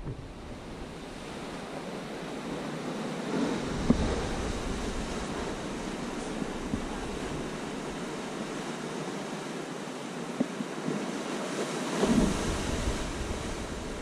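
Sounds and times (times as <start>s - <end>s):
surf breaking over rocks: 0.0s - 8.9s, 11.4s - 14.0s
wind on microphone: 0.0s - 9.0s, 10.7s - 14.0s.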